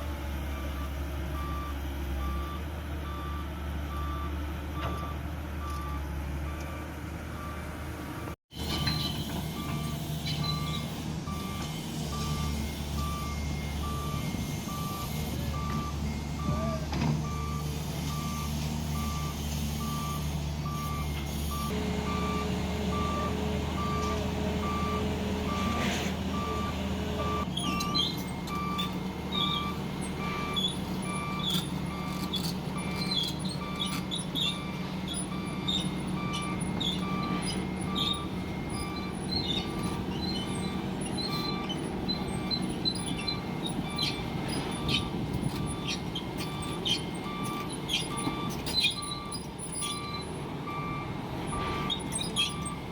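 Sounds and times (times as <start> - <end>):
diesel engine running: 0.0 - 52.9
reversing alarm beeping: 0.5 - 52.9
machinery squeaks and clicks: 8.5 - 21.8, 23.8 - 52.9.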